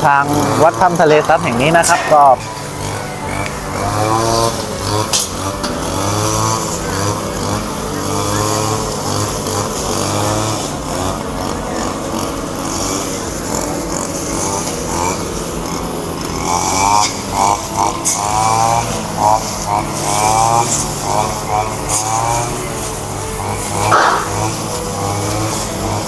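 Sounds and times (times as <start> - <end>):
brush cutters cutting grass: 0.0 - 26.0
voices in background: 0.0 - 26.0.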